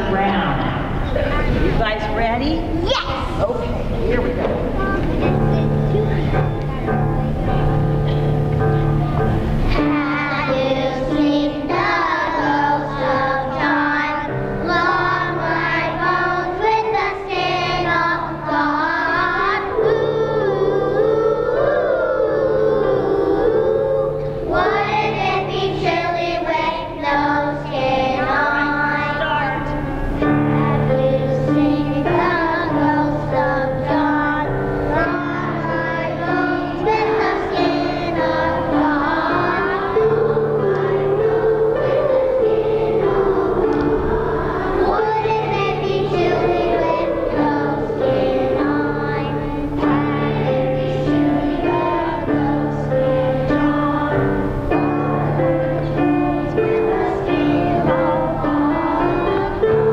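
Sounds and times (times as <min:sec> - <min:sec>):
upright piano: 0:00.0 - 0:59.9
children's choir singing: 0:03.2 - 0:59.9.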